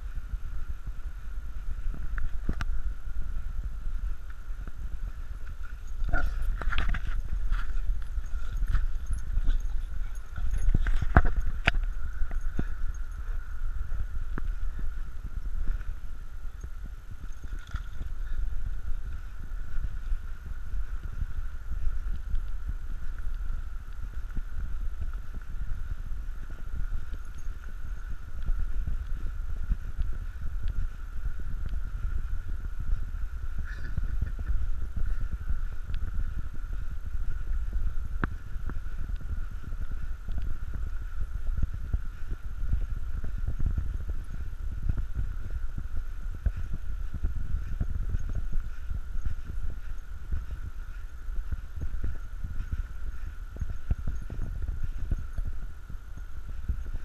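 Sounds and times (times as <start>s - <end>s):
faint high hum: 0.0s - 57.0s
wind rumble: 0.0s - 57.0s
microphone handling noise: 1.6s - 57.0s.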